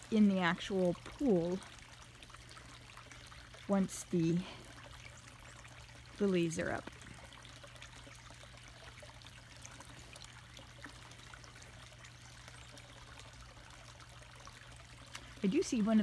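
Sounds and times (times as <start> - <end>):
low steady hum: 0.0 - 16.0
water trickling into pond: 0.0 - 16.0.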